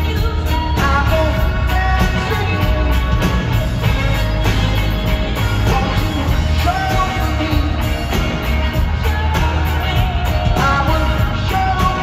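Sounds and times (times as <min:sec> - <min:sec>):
man singing: 0:00.0 - 0:04.7, 0:05.3 - 0:12.0
heavy bass line: 0:00.0 - 0:12.0
rock band playing: 0:00.0 - 0:12.0.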